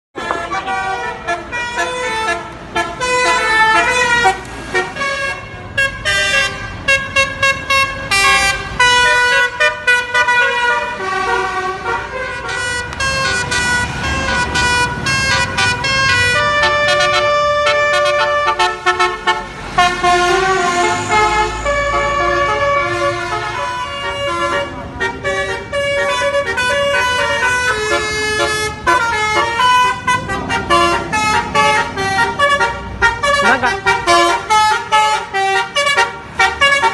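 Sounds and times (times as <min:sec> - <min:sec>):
bus horns playing melodies: 0:00.1 - 0:36.9.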